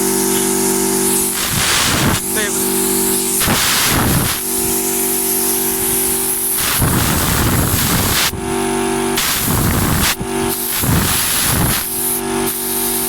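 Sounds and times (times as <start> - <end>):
air compressor running: 0.0 - 13.0
air gun hissing blasts: 0.0 - 13.0.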